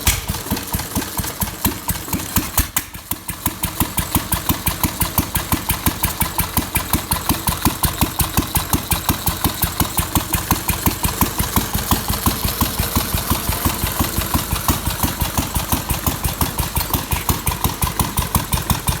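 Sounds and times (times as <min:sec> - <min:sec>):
stationary engine exhaust beats: 0:00.0 - 0:19.0.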